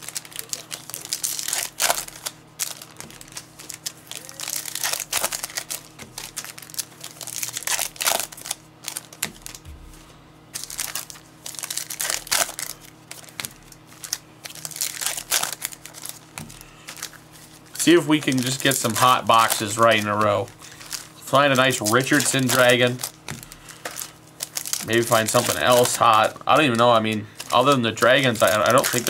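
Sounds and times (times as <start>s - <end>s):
plastic wrappers crinkling and tearing: 0.0s - 9.7s, 10.5s - 29.0s
faint steady hum: 0.0s - 29.0s.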